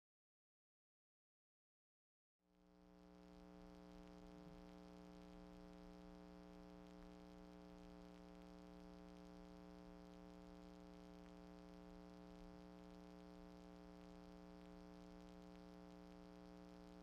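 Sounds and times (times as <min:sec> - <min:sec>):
faint low hum: 0:02.6 - 0:17.0.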